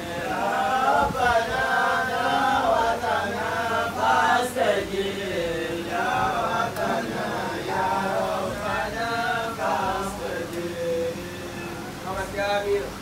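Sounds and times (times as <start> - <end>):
men chanting prayers: 0.0 - 13.0.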